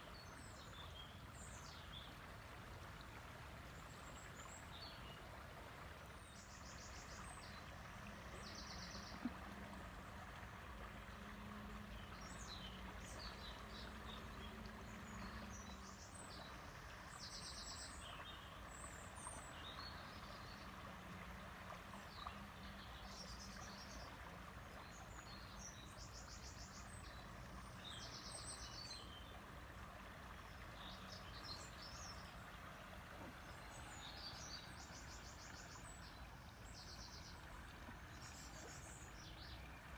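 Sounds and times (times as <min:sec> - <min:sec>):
river water flowing softly: 0:00.0 - 0:39.9.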